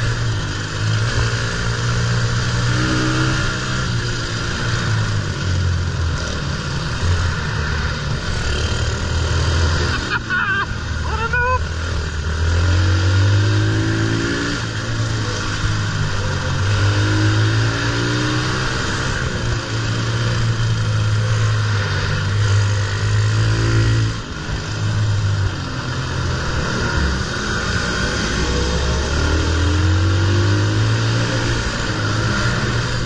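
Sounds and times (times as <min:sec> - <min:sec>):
motorbike engine accelerating: 0:00.0 - 0:33.0.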